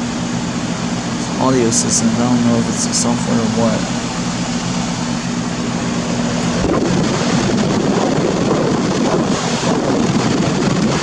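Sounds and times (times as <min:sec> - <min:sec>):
heat pump fan air rushing: 0:00.0 - 0:11.0.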